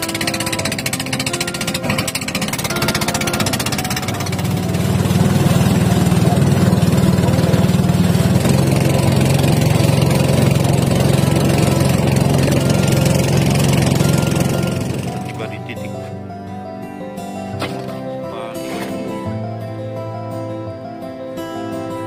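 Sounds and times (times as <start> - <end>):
boat engine running: 0.0 - 21.4.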